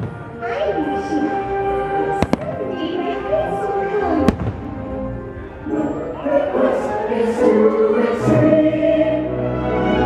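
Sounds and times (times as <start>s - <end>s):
music: 0.0s - 10.0s
choir singing held notes: 0.4s - 10.0s.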